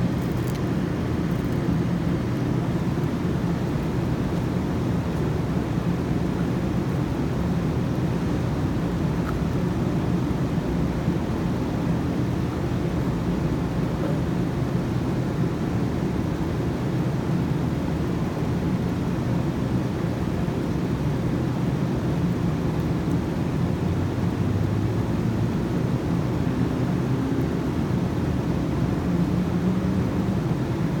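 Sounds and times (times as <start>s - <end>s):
low rumbling with faint hum: 0.0s - 31.0s.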